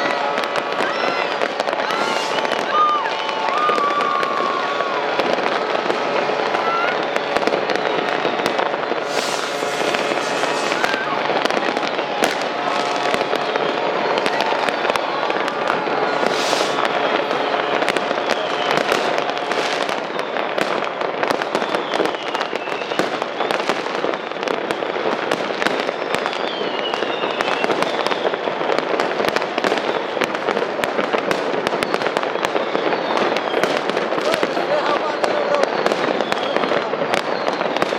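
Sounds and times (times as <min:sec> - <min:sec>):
fireworks cracking and banging: 0:00.0 - 0:37.9
whistling rockets: 0:00.0 - 0:37.9.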